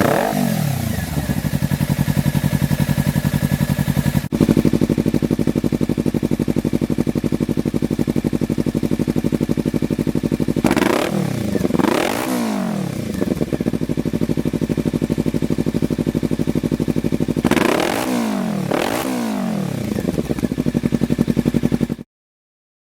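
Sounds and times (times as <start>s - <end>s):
motorcycle engine idling: 0.0s - 22.0s
motorcycle throttle blips: 0.0s - 22.0s.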